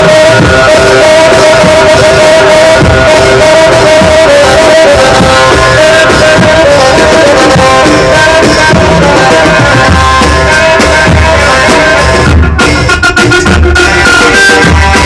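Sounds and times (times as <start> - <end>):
drums: 0.0 - 15.0
pulsing bass line: 0.0 - 15.0.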